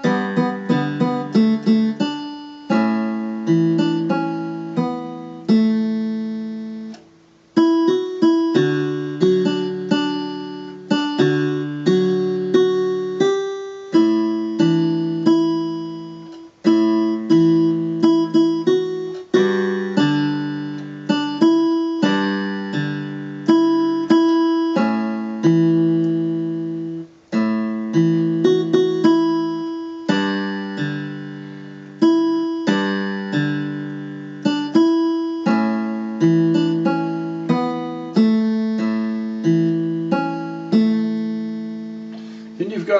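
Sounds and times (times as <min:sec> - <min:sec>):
electronic keyboard guitar voice: 0:00.0 - 0:42.9.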